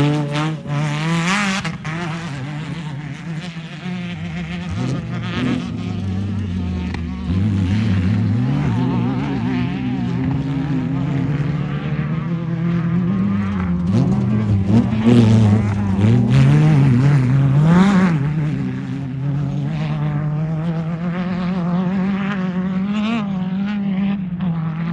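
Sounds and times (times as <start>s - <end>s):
race car engine revving: 0.0s - 24.9s.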